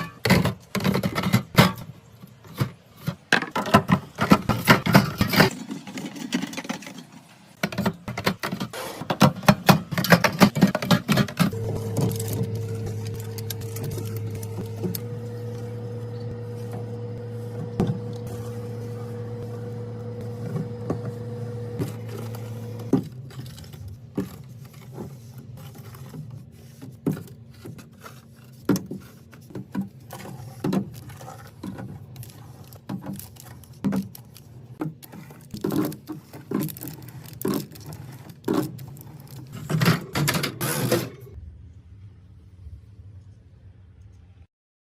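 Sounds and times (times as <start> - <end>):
items clicking and knocking: 0.0 - 18.3, 19.7 - 41.4
steady mechanical hum: 7.2 - 44.5.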